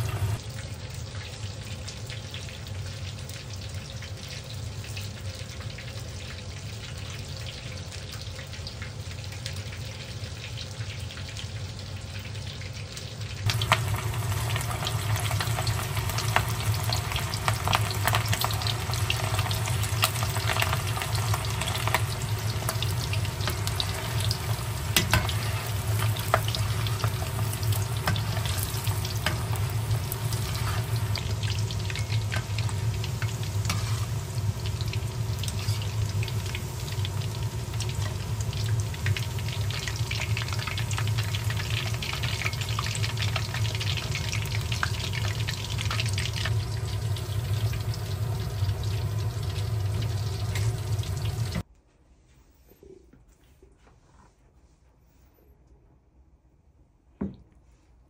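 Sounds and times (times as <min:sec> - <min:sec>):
food sizzling in a pan: 0:00.0 - 0:51.7.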